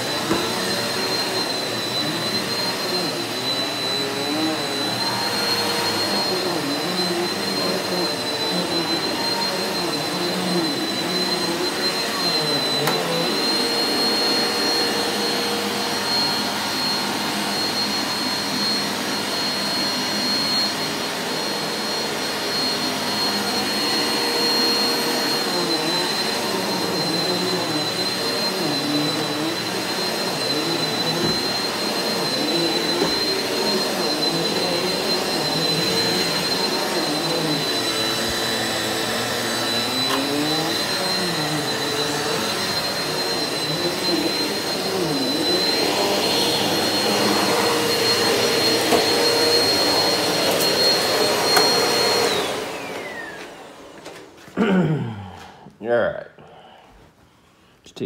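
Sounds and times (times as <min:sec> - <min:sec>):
vacuum cleaner running on carpet: 0:00.0 - 0:54.3.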